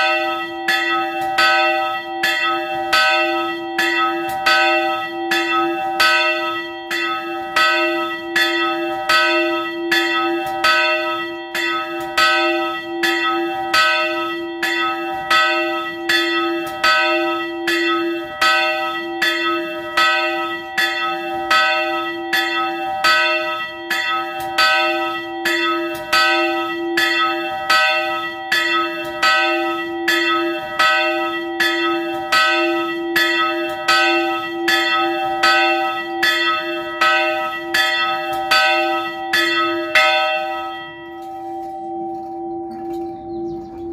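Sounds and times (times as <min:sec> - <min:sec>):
church bell ringing: 0:00.0 - 0:43.9.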